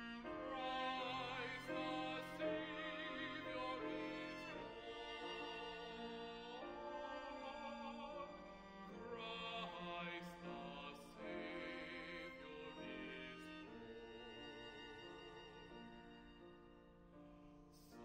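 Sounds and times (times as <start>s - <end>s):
operatic singing with vibrato: 0.0s - 15.4s.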